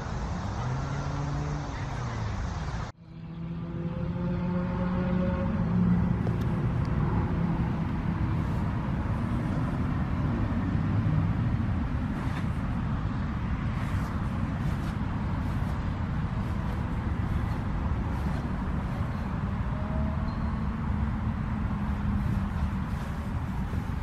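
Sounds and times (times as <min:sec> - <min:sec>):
faint engine tone: 0:00.0 - 0:24.0
road traffic rumble: 0:00.0 - 0:24.0.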